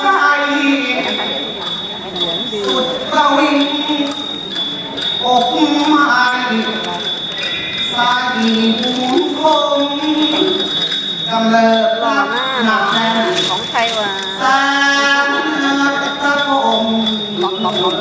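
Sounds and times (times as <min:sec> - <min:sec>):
light metallic jingling: 0:00.0 - 0:18.0
man singing ornamented melody: 0:02.6 - 0:07.0, 0:07.9 - 0:18.0.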